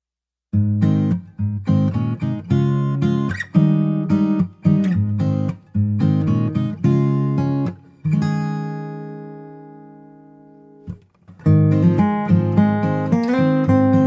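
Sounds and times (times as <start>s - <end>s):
acoustic guitar strumming chords: 0.6s - 14.0s.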